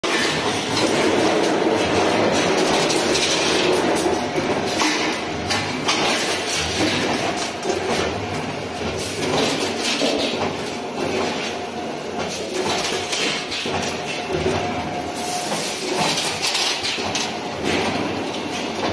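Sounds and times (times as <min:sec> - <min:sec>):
wire bending machine clatter: 0:00.0 - 0:18.9.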